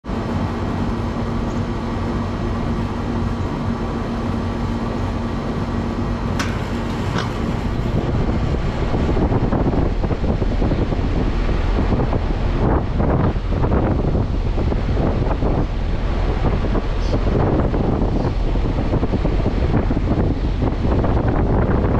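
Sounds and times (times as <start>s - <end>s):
condenser fan air rush: 0.0s - 21.9s
air conditioner unit humming: 0.1s - 21.9s.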